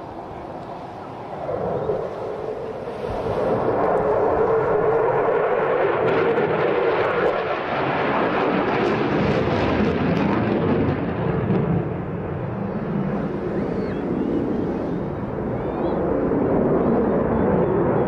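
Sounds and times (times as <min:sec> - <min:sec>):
jet engine crackling: 0:00.0 - 0:18.0
loud jet noise: 0:00.0 - 0:18.0.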